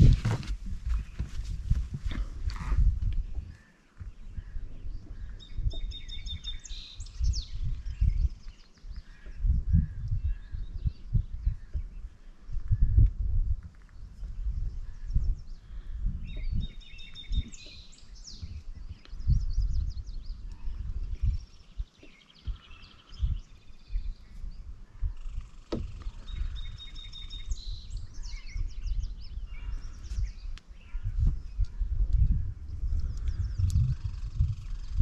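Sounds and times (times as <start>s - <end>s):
gusty outdoor rumble: 0.0s - 35.0s
songbirds singing: 0.0s - 35.0s.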